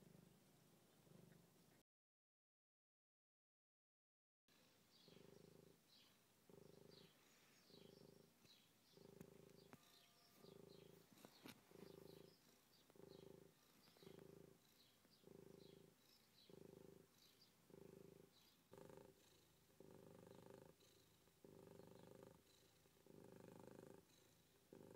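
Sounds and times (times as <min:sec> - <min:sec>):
cat purring: 0:00.0 - 0:01.8, 0:04.5 - 0:24.9.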